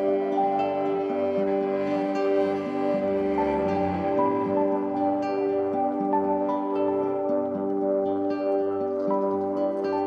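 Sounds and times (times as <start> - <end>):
calm ambient music: 0.0 - 10.0.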